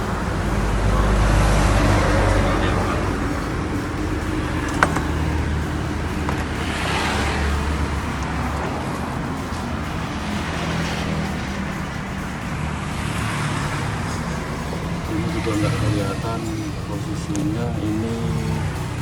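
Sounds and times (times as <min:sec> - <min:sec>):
motor vehicle running: 0:00.0 - 0:19.0.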